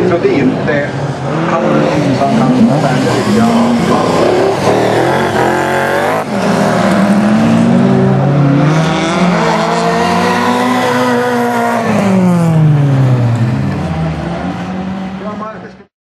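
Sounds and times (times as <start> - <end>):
rally car engines revving: 0.0 - 15.9.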